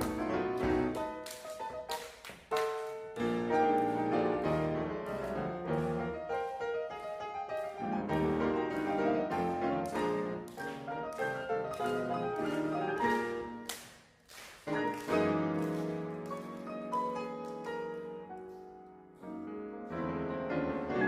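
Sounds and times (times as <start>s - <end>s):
ragtime piano music: 0.0s - 13.8s, 14.6s - 21.0s.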